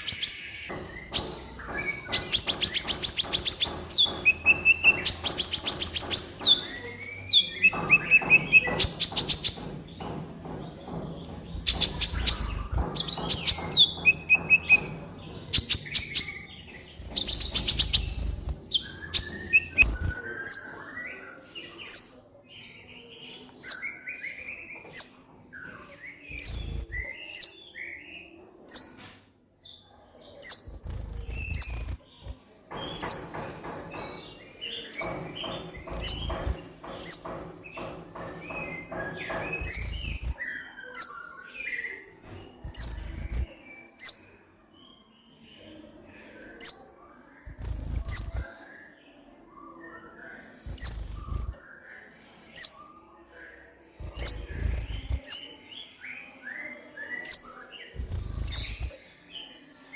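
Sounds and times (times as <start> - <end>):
bird singing: 0.0 - 29.1, 30.1 - 59.9.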